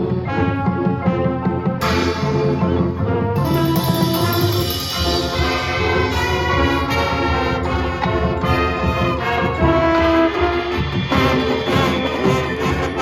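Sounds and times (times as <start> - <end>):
brass sustained chords: 1.8 - 13.0.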